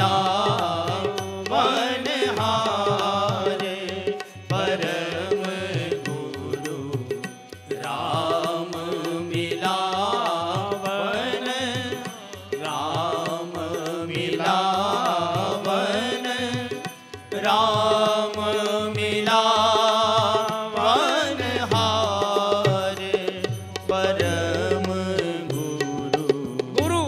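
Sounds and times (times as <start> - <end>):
instrumental accompaniment: 0.0 - 27.0
man singing devotional song: 0.0 - 27.0.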